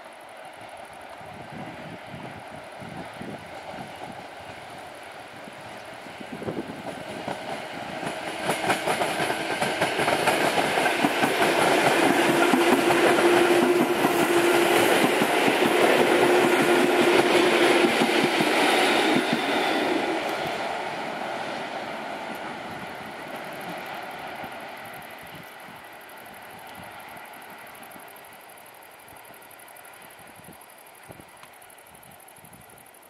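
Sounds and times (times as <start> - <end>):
train whine: 0.0 - 33.0.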